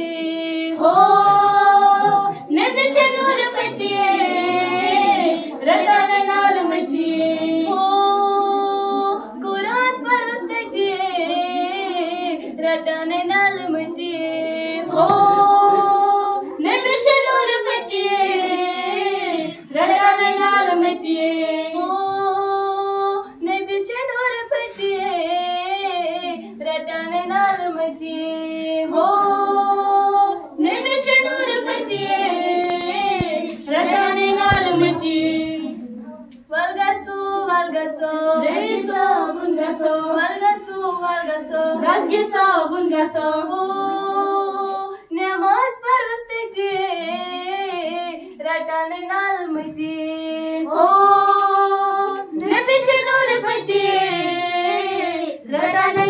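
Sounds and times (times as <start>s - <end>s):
girls singing unaccompanied: 0.0s - 56.0s.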